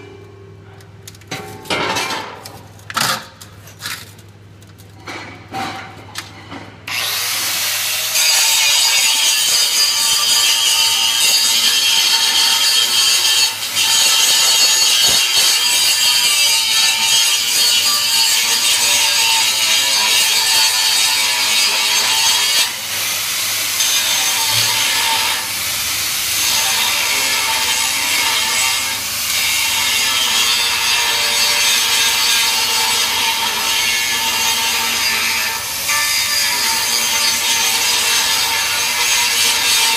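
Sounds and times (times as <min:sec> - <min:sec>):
angle grinder grinding metal: 0:06.9 - 0:39.9.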